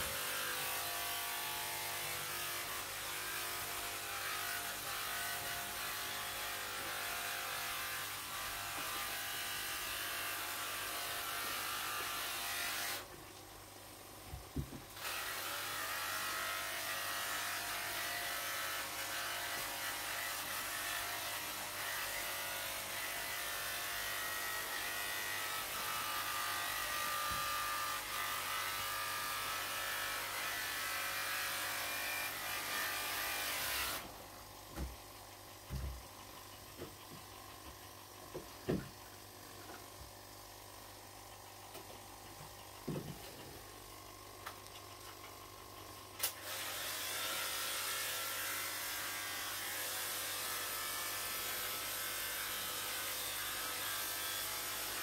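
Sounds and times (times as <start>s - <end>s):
small electric motor whirring: 0.0s - 13.1s, 15.0s - 34.2s, 35.4s - 55.0s.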